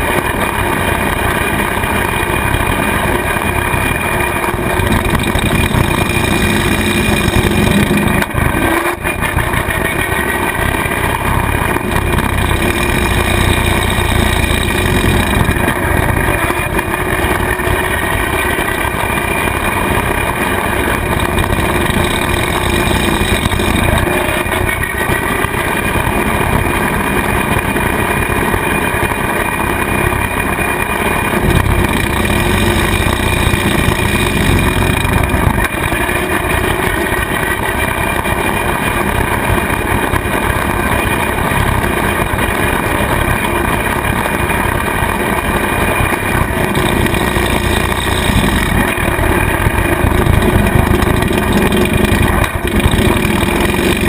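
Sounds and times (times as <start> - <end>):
rotary cutter mowing grass: 0.0 - 54.0
tractor engine running: 0.0 - 54.0.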